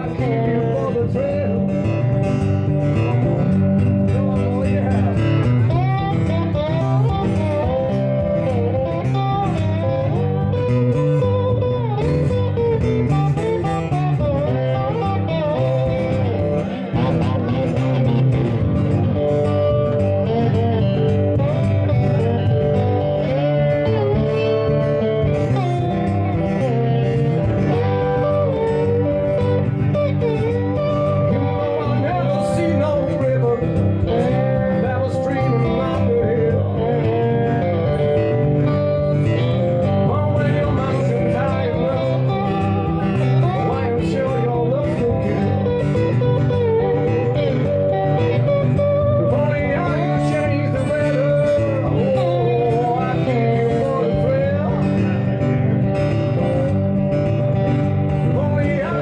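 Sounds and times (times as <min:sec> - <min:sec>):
man singing: 0:00.0 - 0:55.6, 0:58.0 - 0:59.0
acoustic guitars playing blues: 0:00.0 - 0:59.0.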